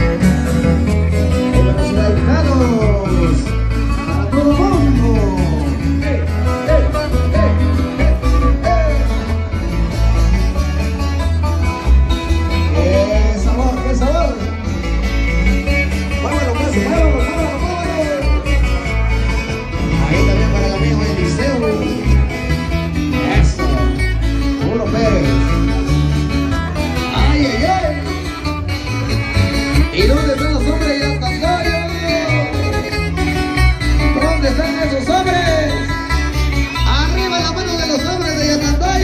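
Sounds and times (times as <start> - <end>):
live band playing latin music: 0.0 - 39.0.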